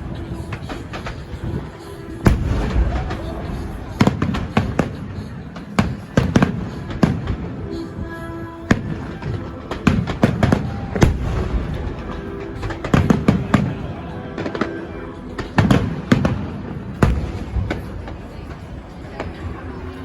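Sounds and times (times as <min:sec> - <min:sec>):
fireworks bangs and booms: 0:00.0 - 0:19.8.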